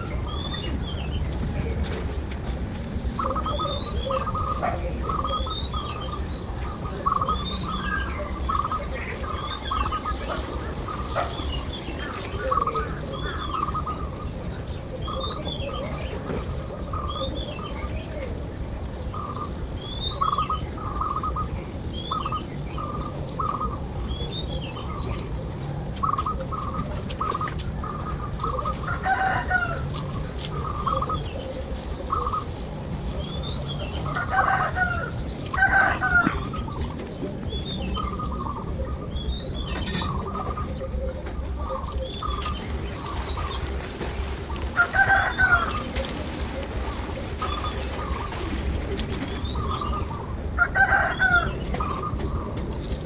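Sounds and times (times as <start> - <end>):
chickens clucking: 0.0 - 53.0
small birds chirping: 0.0 - 53.0.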